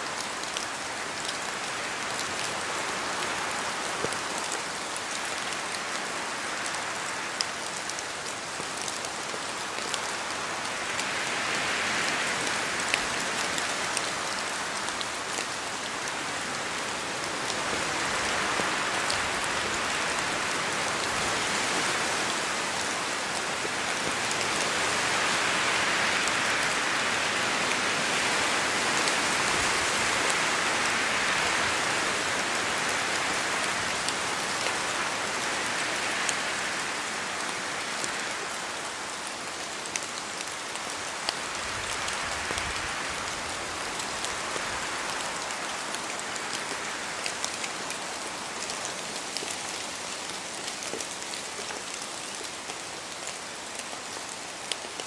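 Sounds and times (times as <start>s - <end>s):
steady rain in a forest: 0.0s - 55.0s
sharp ticks of raindrops: 0.1s - 55.0s.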